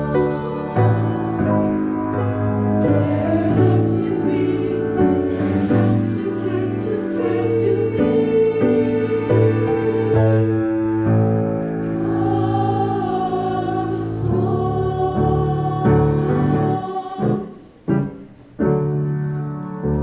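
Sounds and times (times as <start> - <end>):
women's choir singing: 0.0 - 18.2.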